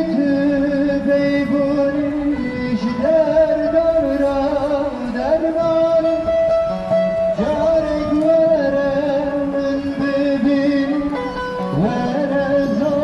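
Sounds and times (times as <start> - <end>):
man singing long held notes: 0.0 - 13.0
plucked long-necked lute: 0.0 - 13.0.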